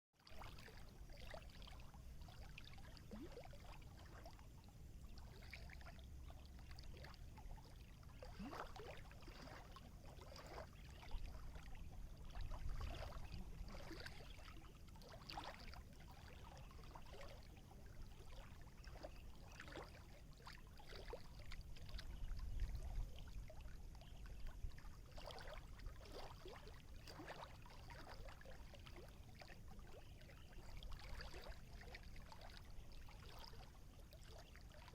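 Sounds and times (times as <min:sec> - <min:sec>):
water lapping and splashing: 0:00.2 - 0:34.9
low steady rumble: 0:00.3 - 0:34.9.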